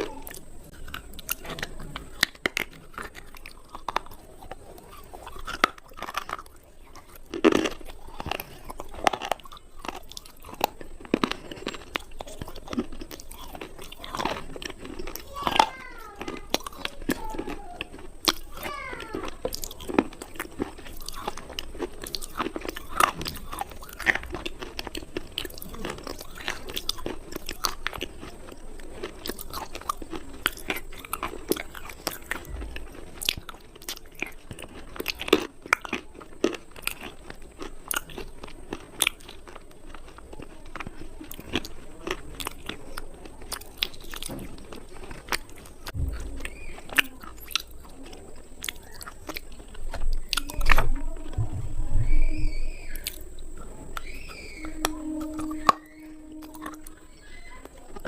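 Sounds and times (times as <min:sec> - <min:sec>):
slate pencils crunching when chewed: 0:00.0 - 0:58.0.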